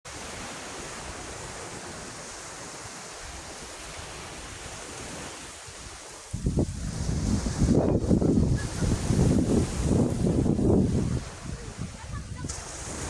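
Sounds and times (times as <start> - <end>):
sea surf washing: 0.1 - 13.0.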